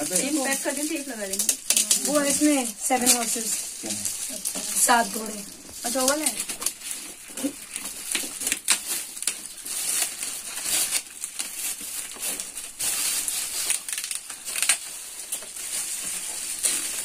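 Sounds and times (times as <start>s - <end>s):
wrapping paper rustling and crinkling: 0.0s - 17.0s.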